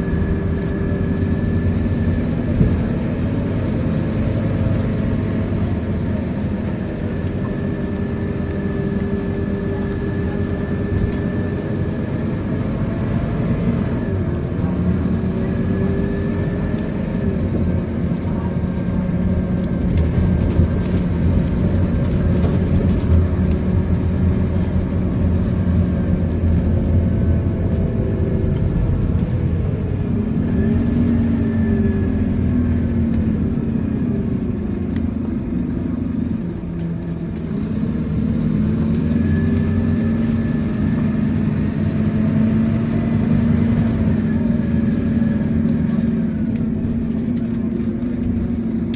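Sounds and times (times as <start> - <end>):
bus engine from inside: 0.0 - 48.9.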